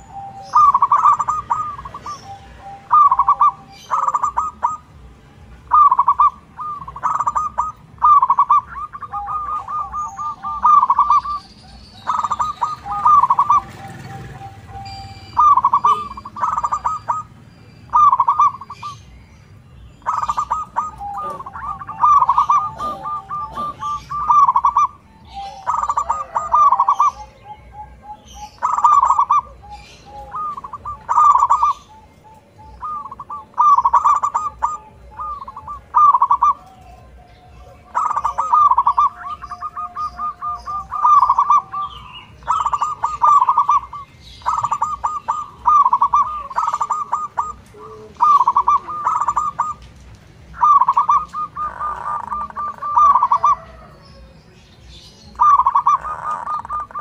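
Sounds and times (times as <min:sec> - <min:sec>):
quiet coo notes: 0:00.0 - 0:19.0, 0:20.0 - 0:49.9, 0:50.6 - 0:57.0
dove cooing: 0:00.0 - 0:19.1, 0:20.0 - 0:57.0.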